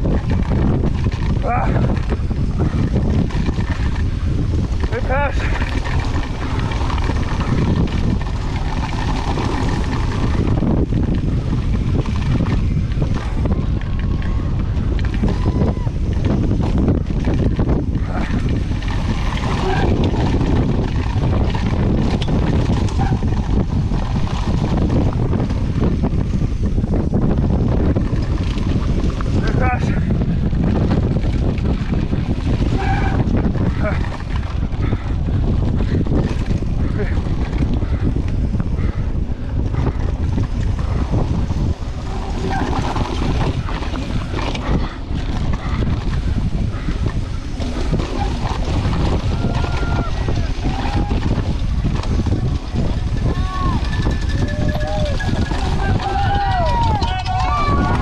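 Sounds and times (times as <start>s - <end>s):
bike knocks and rattles: 0.0s - 58.0s
bike tyres rolling on gravel: 0.0s - 58.0s
wind on microphone: 0.0s - 58.0s.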